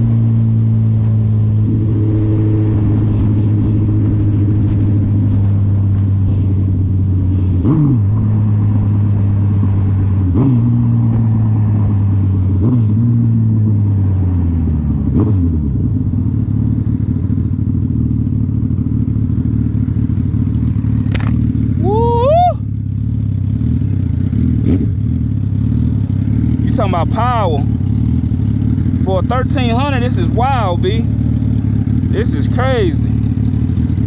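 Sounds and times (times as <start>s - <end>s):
motorcycle engine downshifting: 0.0s - 34.0s.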